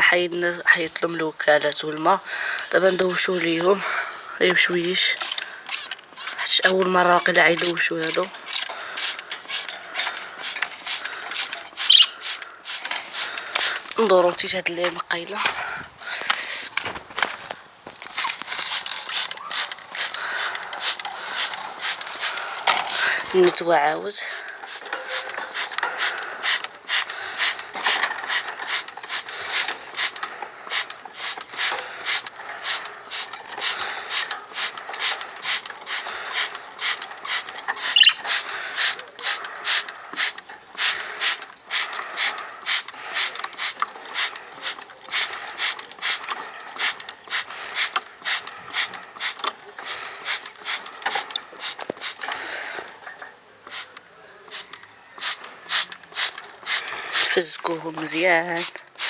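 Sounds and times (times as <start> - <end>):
spray bottle spraying: 5.2 - 15.5, 16.4 - 23.6, 24.2 - 52.4, 53.7 - 59.0.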